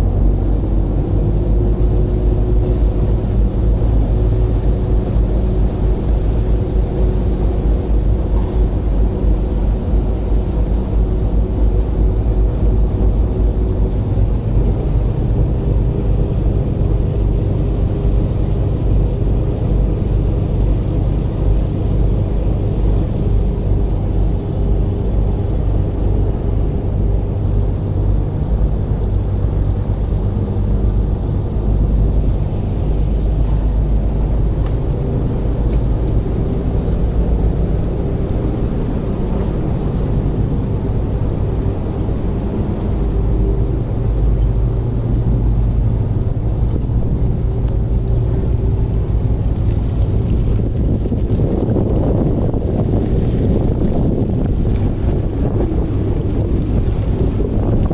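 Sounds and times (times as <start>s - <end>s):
diesel engines droning: 0.0s - 57.9s.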